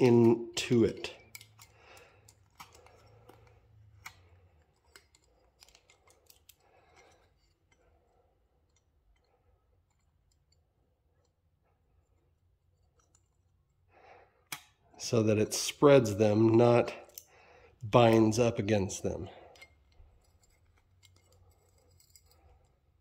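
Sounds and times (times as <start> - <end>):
faint metal clicks and scratching: 0.0 - 14.8, 19.3 - 23.0.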